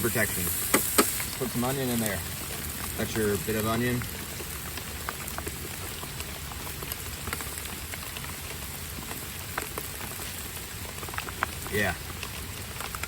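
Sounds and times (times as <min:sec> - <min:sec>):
rain falling: 0:00.0 - 0:13.0
raindrops clicking on surfaces: 0:00.0 - 0:13.0.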